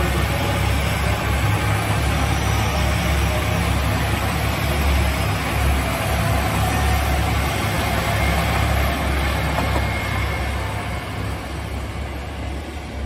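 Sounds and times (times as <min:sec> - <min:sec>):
diesel train engines droning: 0:00.0 - 0:13.0
wheel and rail noise: 0:00.0 - 0:13.0.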